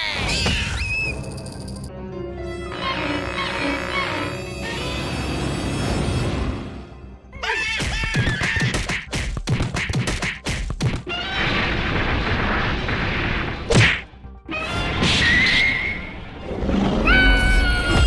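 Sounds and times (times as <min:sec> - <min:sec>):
music: 0:00.0 - 0:18.0.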